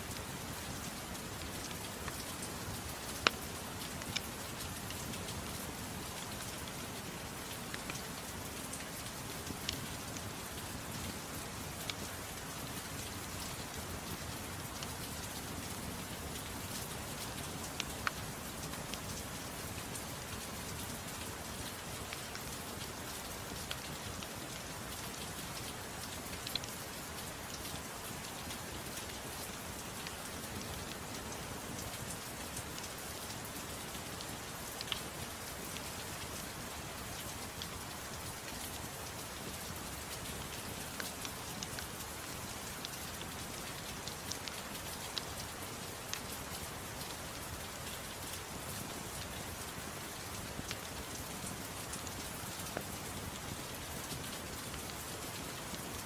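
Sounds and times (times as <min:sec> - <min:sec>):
soft rain hiss: 0:00.0 - 0:56.0.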